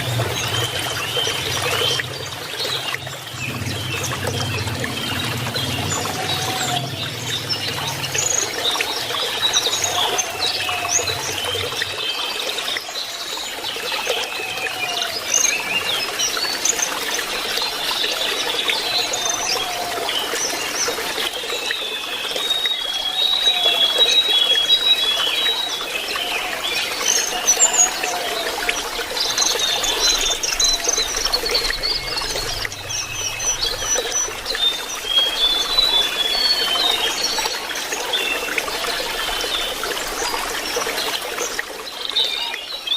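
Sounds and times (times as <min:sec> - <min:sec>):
bird singing twittering song: 0:00.0 - 0:40.8
trickling running water: 0:00.0 - 0:42.9.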